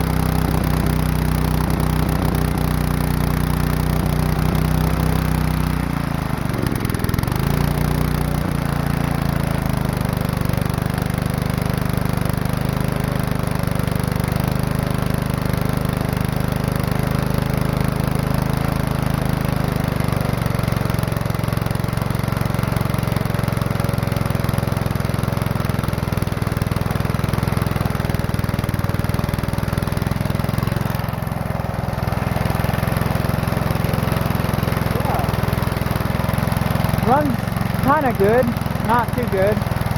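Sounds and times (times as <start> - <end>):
small four-stroke engine running: 0.0 - 39.9.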